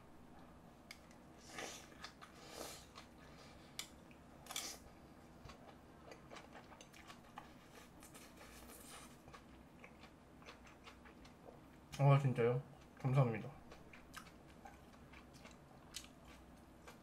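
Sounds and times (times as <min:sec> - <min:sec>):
chewing food: 0:01.8 - 0:12.0, 0:12.7 - 0:17.0.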